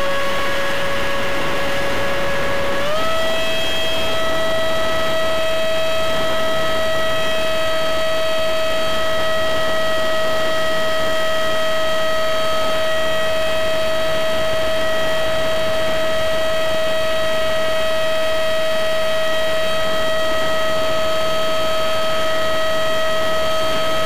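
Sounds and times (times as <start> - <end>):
electric ducted fan whine: 0.0 - 24.0.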